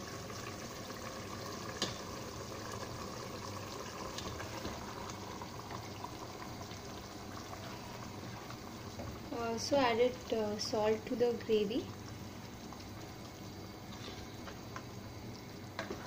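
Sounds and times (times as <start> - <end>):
gravy boiling in a pot: 0.0 - 16.0.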